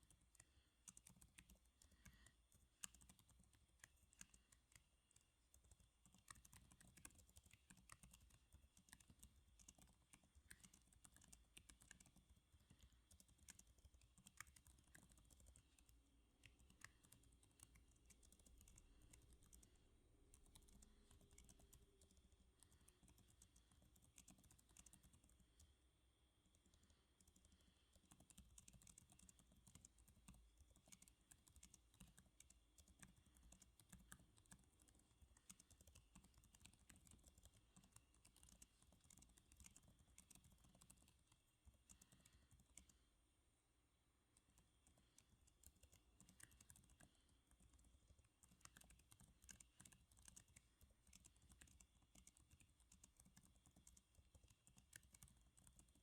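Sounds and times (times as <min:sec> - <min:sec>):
typing on computer keyboard: 0:00.0 - 0:25.7, 0:26.5 - 0:43.0, 0:44.4 - 0:56.0.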